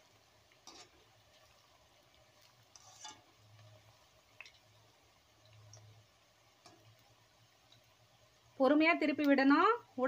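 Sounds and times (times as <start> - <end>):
faint sizzle of deep-frying: 0.0 - 10.0.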